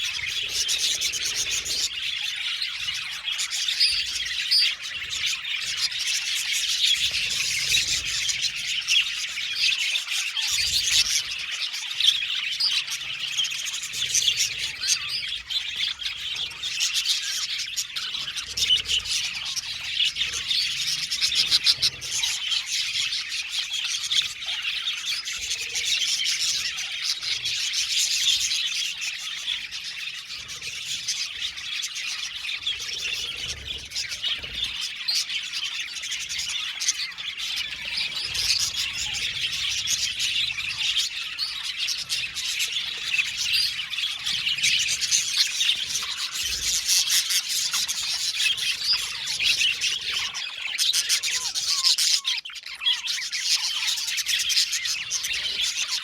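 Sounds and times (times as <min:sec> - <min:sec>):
budgerigars chirping and warbling: 0:00.0 - 0:56.0.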